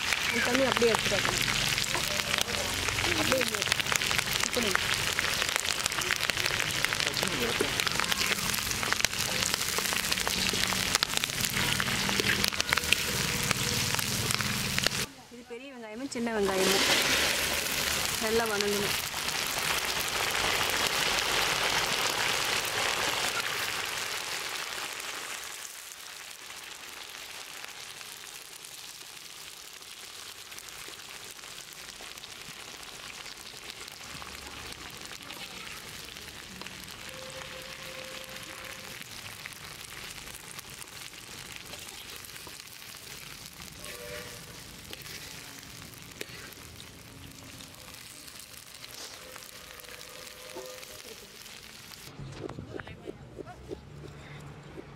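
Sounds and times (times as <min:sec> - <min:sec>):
shallots sizzling in hot oil: 0:00.0 - 0:52.1.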